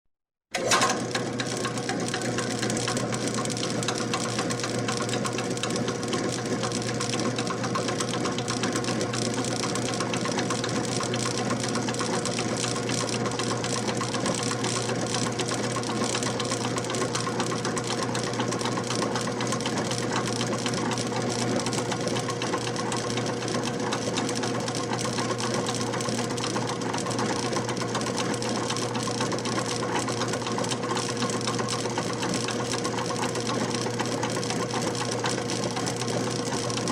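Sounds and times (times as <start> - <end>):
electric water pump humming: 0.5 - 36.9.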